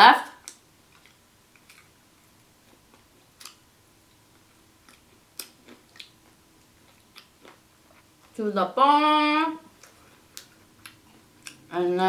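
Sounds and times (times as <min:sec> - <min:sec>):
chewing crunchy fried chicken: 0:00.4 - 0:08.4, 0:09.6 - 0:11.8.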